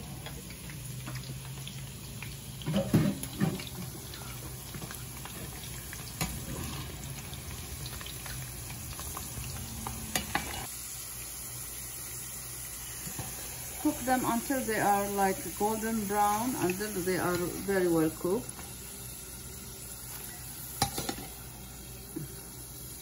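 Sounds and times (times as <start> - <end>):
potatoes sizzling in oil: 0.0 - 23.0.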